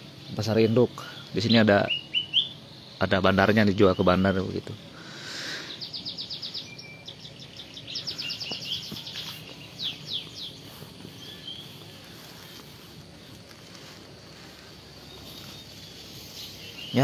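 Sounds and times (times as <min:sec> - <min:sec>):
faint outdoor background noise: 0:00.0 - 0:17.0
small birds chirping: 0:00.0 - 0:17.0.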